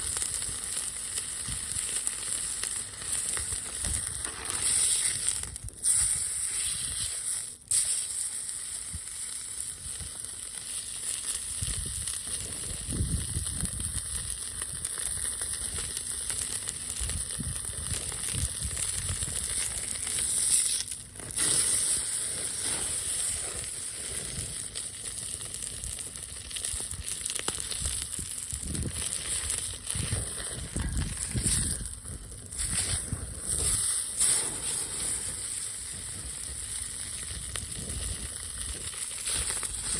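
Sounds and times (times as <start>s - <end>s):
food sizzling on grill: 0.0s - 39.9s.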